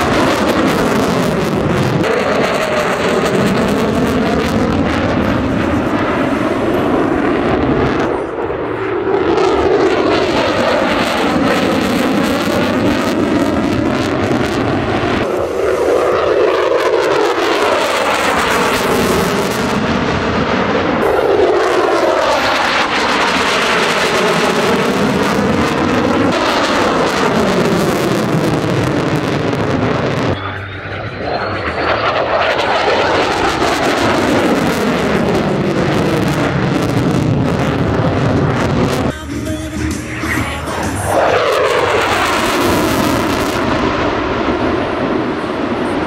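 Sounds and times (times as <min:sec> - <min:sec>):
jet engine roar: 0:00.0 - 0:46.0.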